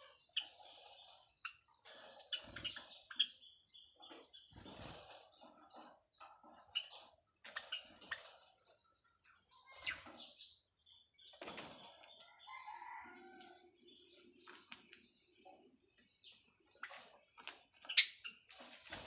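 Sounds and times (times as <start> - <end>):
bird chirps: 0.0 - 18.6.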